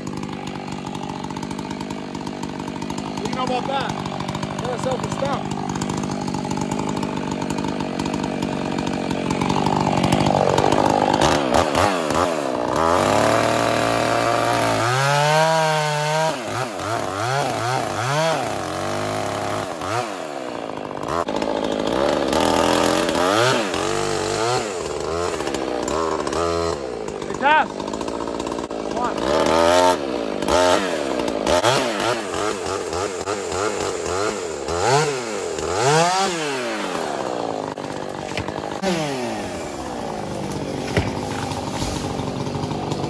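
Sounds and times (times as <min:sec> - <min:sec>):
chainsaw cutting tree trunk: 0:00.0 - 0:43.0.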